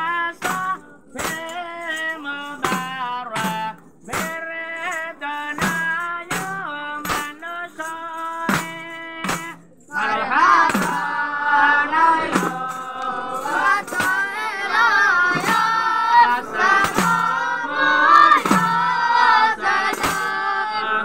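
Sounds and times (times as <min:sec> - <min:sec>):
boys chanting in unison: 0:00.0 - 0:21.0
tambourines and frame drums: 0:00.0 - 0:21.0.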